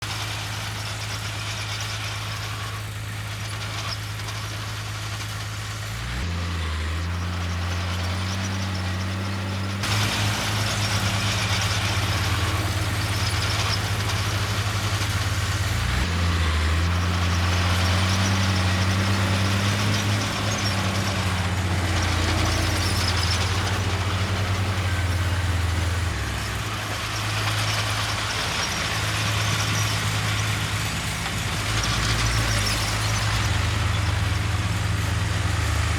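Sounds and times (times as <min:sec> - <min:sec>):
heavy diesel engines running: 0:00.0 - 0:35.9
broad rattling noise: 0:07.1 - 0:35.9.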